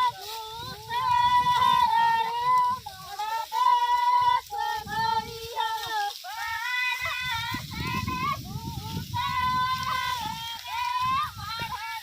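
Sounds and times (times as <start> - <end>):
women singing folk song: 0.0 - 12.0.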